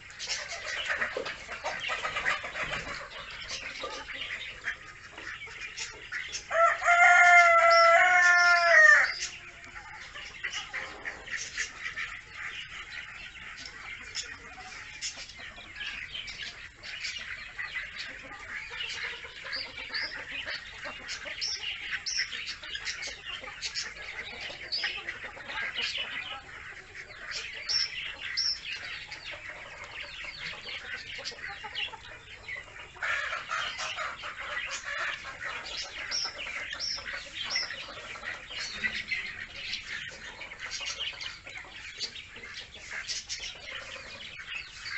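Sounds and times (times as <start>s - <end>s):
ducklings peeping: 0.0s - 44.9s.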